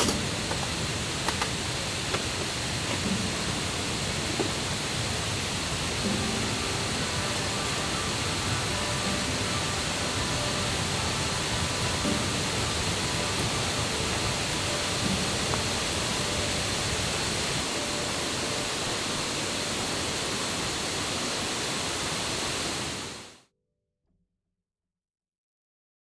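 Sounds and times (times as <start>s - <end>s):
waterfall and stream rushing: 0.0s - 23.4s.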